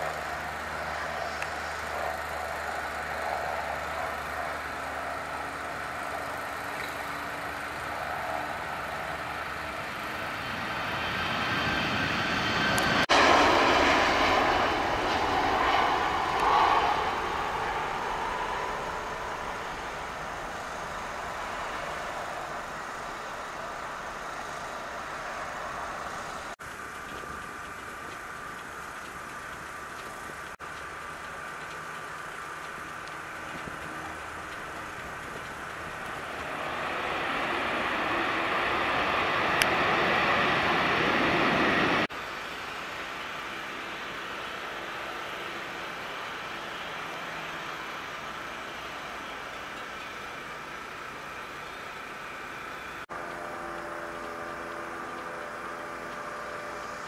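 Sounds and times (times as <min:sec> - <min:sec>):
jet airliner taking off: 0:00.0 - 0:57.0.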